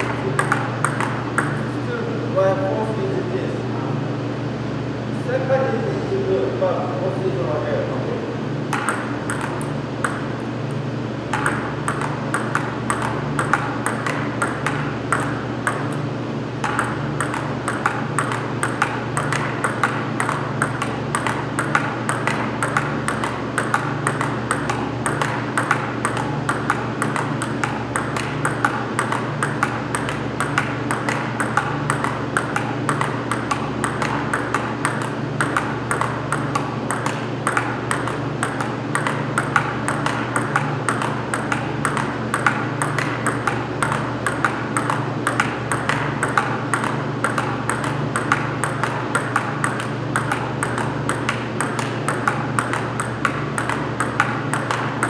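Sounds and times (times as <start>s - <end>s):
table tennis balls clicking: 0.0s - 1.7s, 8.7s - 10.4s, 11.2s - 16.0s, 16.6s - 55.0s
steady low hum: 0.0s - 55.0s.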